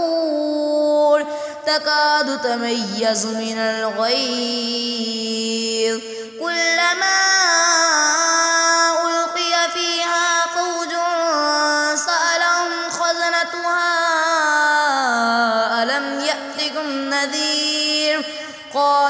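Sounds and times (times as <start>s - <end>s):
person chanting recitation: 0.0s - 19.0s.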